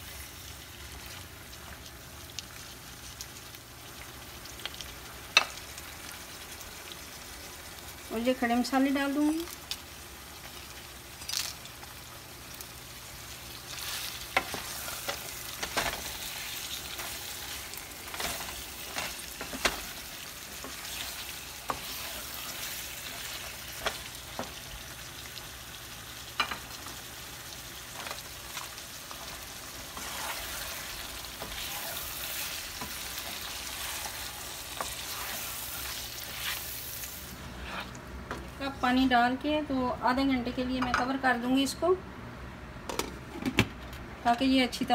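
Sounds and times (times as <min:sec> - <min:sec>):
meat and onions sizzling: 0:00.0 - 0:37.8.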